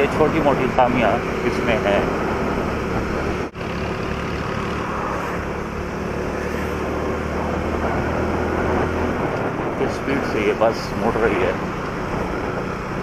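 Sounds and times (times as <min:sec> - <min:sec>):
motorcycle engine cruising: 0:00.0 - 0:13.0
road noise: 0:00.0 - 0:13.0
wind noise: 0:00.0 - 0:13.0.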